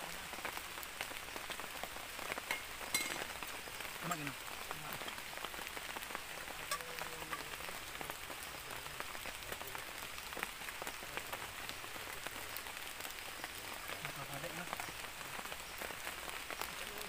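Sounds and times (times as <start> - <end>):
heavy rain falling: 0.0 - 17.0
raindrops clicking close by: 0.0 - 17.0.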